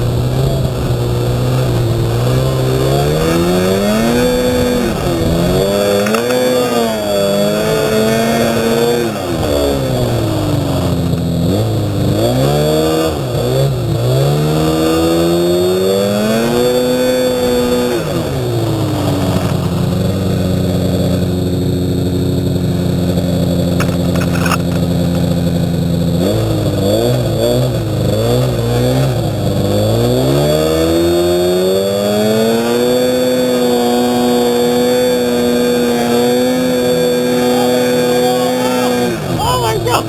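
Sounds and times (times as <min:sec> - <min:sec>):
snowmobile engine revving: 0:00.0 - 0:40.0.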